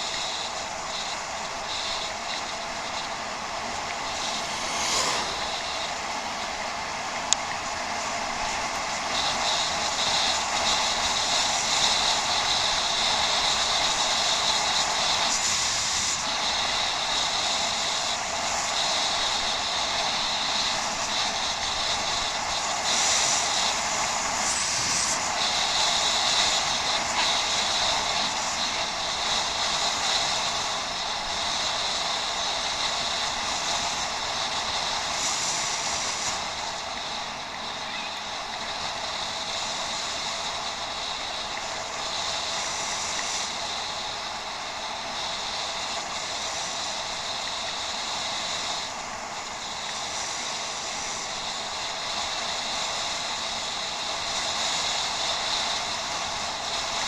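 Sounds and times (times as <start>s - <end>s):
high hiss: 0.0s - 57.0s
wind rushing during bicycle ride: 0.0s - 57.0s.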